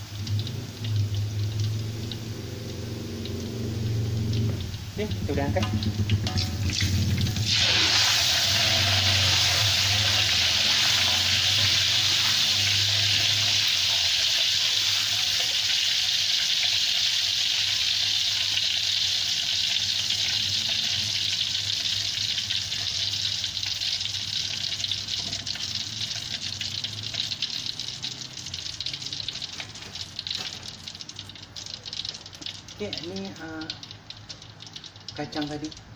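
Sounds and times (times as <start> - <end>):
garlic sizzling in hot oil: 0.0 - 35.9.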